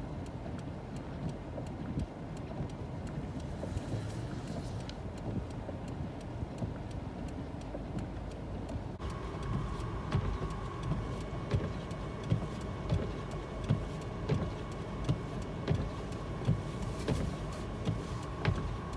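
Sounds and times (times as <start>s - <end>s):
vehicle rumble: 0.0s - 18.9s.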